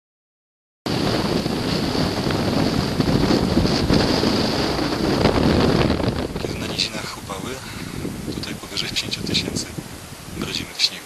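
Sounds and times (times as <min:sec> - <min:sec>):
wind blowing across microphone: 0:00.9 - 0:11.0.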